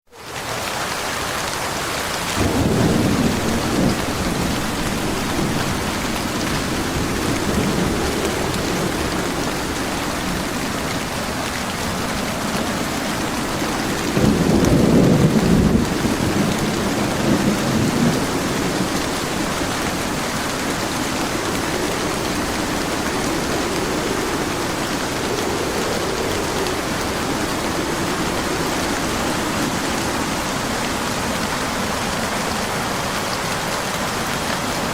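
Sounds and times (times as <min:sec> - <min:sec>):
steady rain pouring: 0:00.1 - 0:34.9
thunder rumbling: 0:02.2 - 0:34.9.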